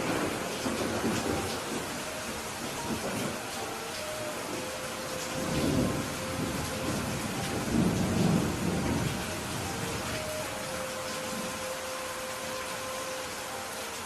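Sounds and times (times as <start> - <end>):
low thunder rumbling: 0.0 - 11.7
steady rain falling: 0.0 - 14.0.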